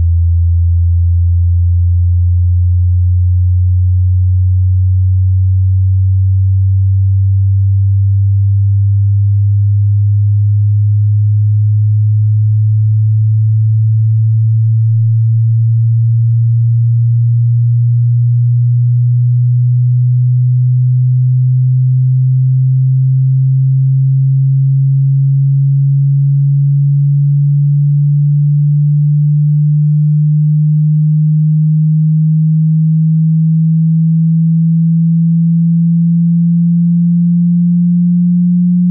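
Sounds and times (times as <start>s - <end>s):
sine tone rising in pitch: 0.0s - 38.9s.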